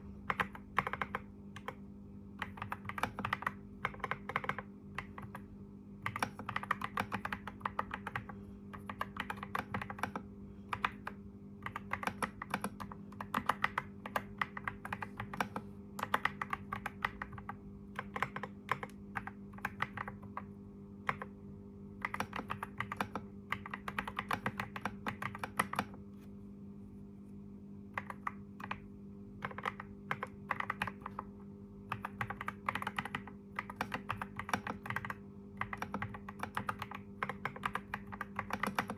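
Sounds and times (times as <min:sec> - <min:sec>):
computer keyboard typing: 0:00.0 - 0:21.4, 0:22.0 - 0:26.0, 0:27.9 - 0:38.9
steady low hum: 0:00.0 - 0:38.9.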